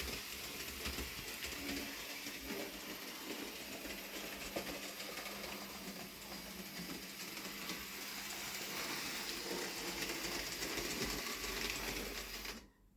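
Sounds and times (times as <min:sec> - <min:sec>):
model train motor whirring: 0:00.0 - 0:12.6.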